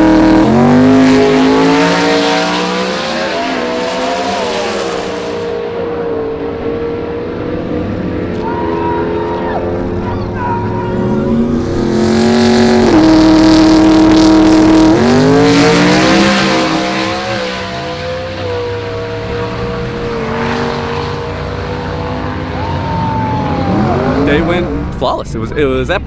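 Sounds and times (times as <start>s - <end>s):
drag racing car engine revving: 0.0s - 25.2s.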